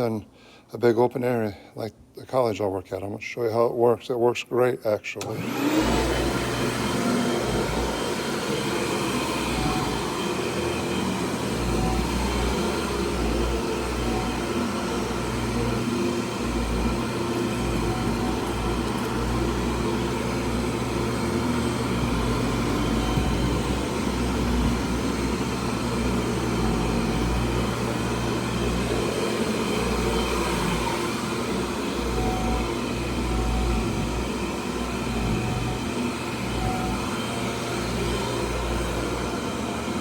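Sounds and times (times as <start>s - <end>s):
vacuum cleaner running: 5.2s - 40.0s.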